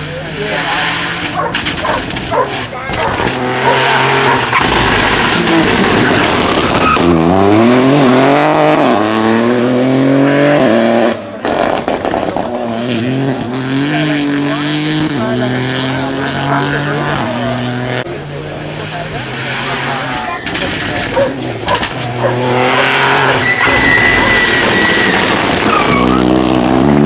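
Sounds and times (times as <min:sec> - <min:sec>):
car engine accelerating through gears: 0:00.0 - 0:27.0.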